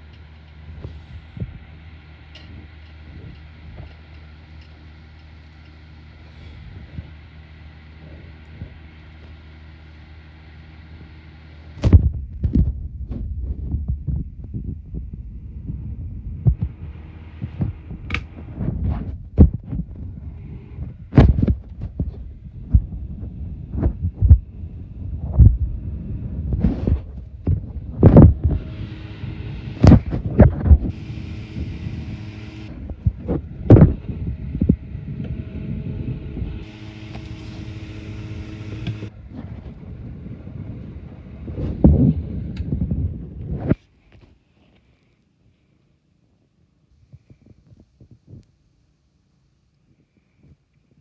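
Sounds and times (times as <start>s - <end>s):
box fan motor hum: 0.0s - 45.0s.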